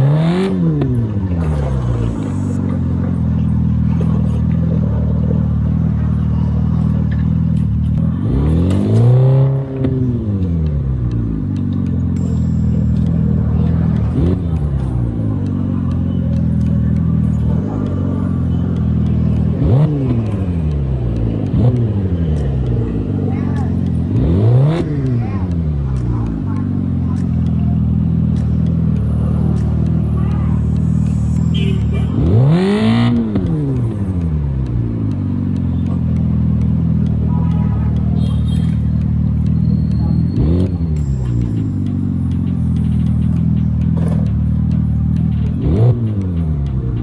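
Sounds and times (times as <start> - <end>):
engine humming and revving: 0.0 - 47.0.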